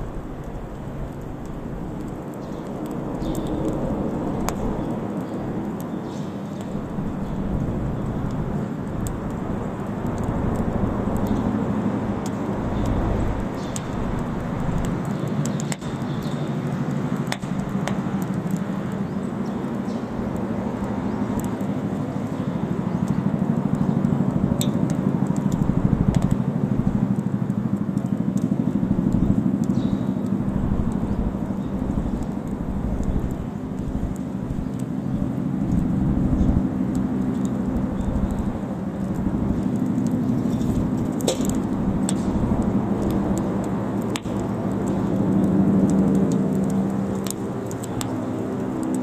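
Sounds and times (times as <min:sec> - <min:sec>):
low rumble of flame: 0:00.0 - 0:49.0
wood crackling and popping: 0:00.0 - 0:49.0.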